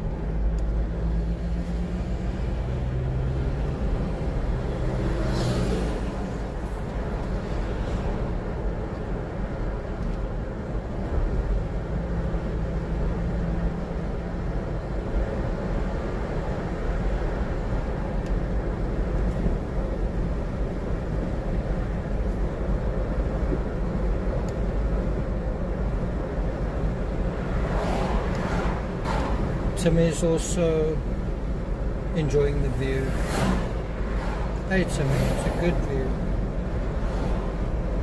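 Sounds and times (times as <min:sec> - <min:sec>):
car road and engine noise: 0:00.0 - 0:38.0
oncoming traffic passing: 0:00.0 - 0:38.0.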